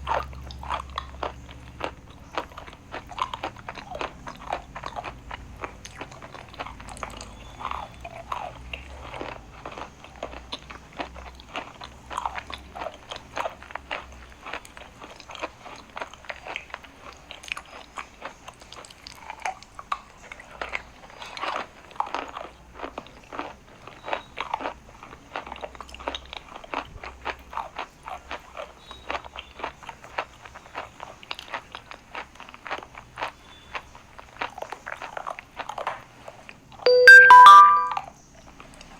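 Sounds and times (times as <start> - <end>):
chewing dry chalk crunches: 0.0 - 36.6.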